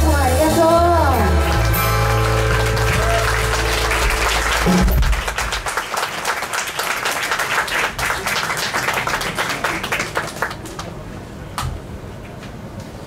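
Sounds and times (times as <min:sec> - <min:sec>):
audience clapping: 0:01.2 - 0:11.7.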